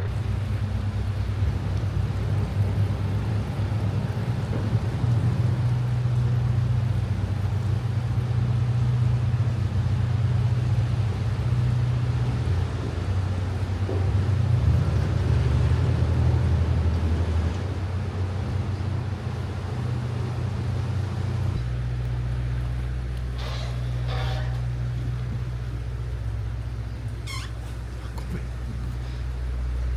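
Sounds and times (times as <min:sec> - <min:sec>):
low engine hum: 0:00.0 - 0:29.9.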